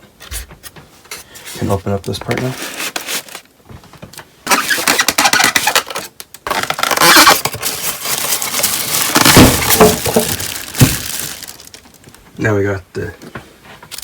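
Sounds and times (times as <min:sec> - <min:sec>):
cardboard and foam rustling: 0:00.2 - 0:12.2.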